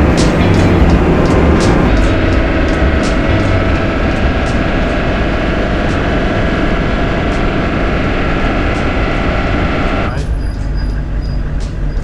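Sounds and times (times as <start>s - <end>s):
diesel engine rumble inside cab: 0.0s - 12.0s
road noise: 0.0s - 12.0s.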